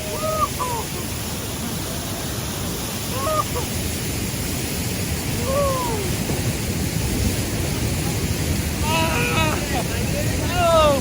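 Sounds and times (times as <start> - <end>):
waterfall and rapids rushing: 0.0 - 11.0.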